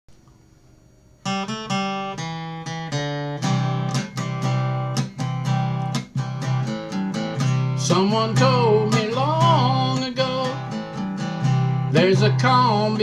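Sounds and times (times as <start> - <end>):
acoustic guitar strumming chords: 1.2 - 13.0.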